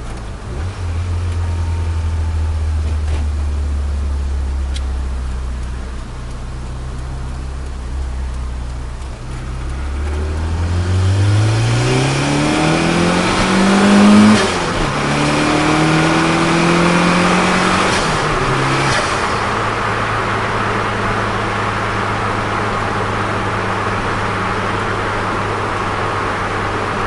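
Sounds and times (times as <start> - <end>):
car engine accelerating: 0.0 - 27.0
road noise: 0.0 - 27.0.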